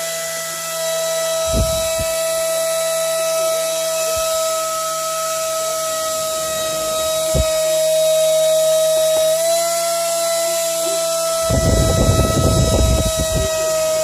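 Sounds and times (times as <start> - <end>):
electric motor whine: 0.0 - 14.0
air hiss: 1.1 - 14.0.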